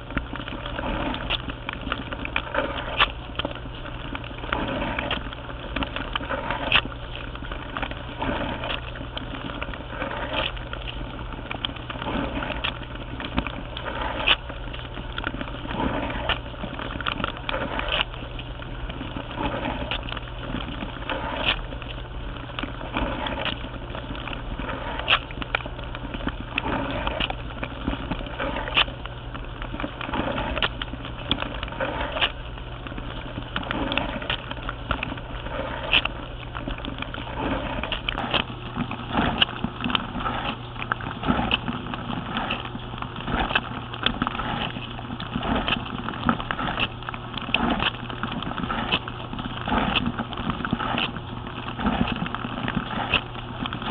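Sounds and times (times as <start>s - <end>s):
water spraying and sloshing: 0.0s - 53.9s.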